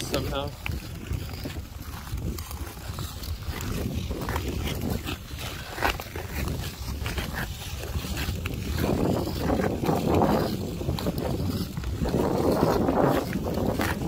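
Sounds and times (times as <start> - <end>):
ice skates scraping and gliding: 0.0 - 14.0
wind rumble on microphone: 0.0 - 14.0.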